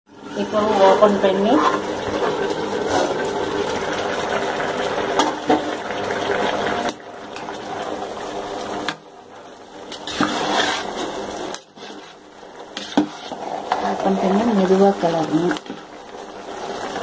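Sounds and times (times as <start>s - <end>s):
rice boiling in a metal pot: 0.1s - 17.0s.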